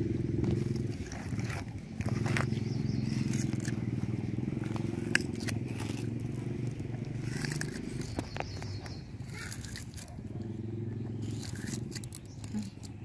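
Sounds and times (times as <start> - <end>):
crunching and scraping of eating fruit: 0.0 - 13.0
low motor drone: 0.0 - 13.0.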